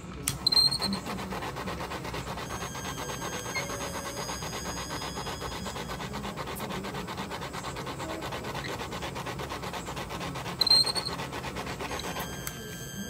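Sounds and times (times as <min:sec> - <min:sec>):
motor rotating cup rubbing: 0:00.0 - 0:13.0.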